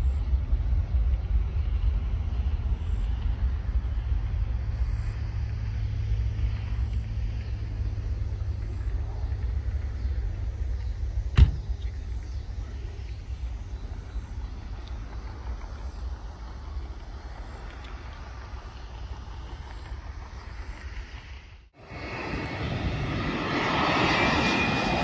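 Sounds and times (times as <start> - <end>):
distant jet taking off: 0.0 - 25.0.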